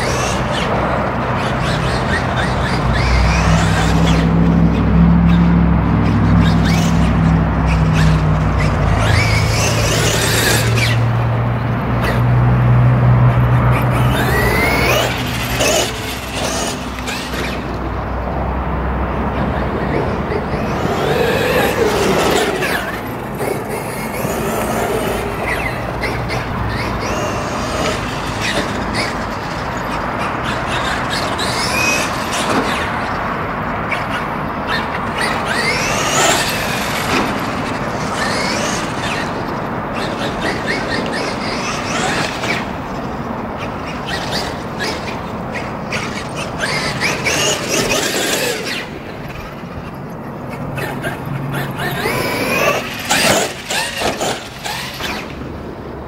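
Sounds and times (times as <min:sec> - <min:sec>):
electric rc car motor whining: 0:00.0 - 0:12.4, 0:13.2 - 0:18.3, 0:19.3 - 0:55.9.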